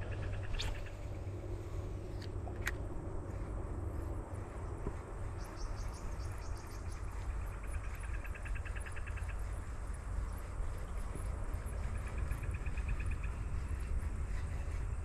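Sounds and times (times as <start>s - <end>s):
insects chirping in pulsed trills: 0.0s - 15.0s
steady low rumble: 0.0s - 15.0s.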